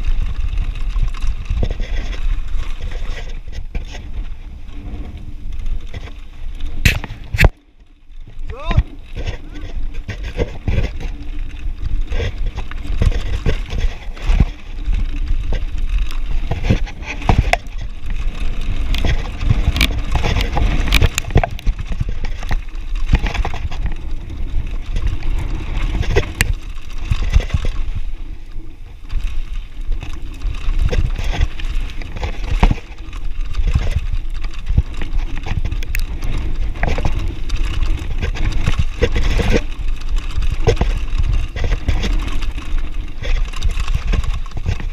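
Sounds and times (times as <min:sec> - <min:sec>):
bike chain and frame rattling: 0:00.0 - 0:44.9
tyres crunching over loose stones: 0:00.0 - 0:44.9
wind rumble on microphone: 0:00.0 - 0:44.9.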